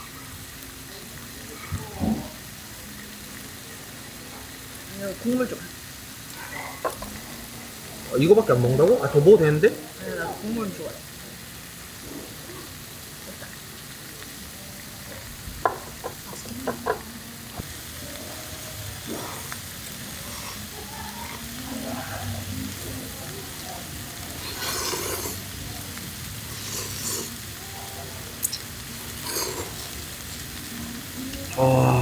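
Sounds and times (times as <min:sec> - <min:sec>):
broth sizzling and bubbling in pan: 0:00.0 - 0:32.0.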